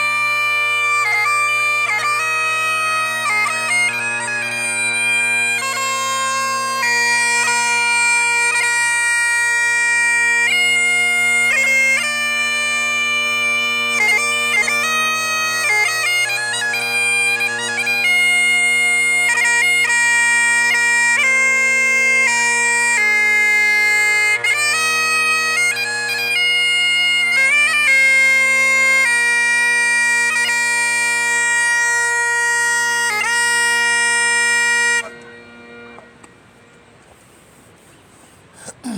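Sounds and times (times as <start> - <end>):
bagpipes playing a tune: 0.0 - 37.0.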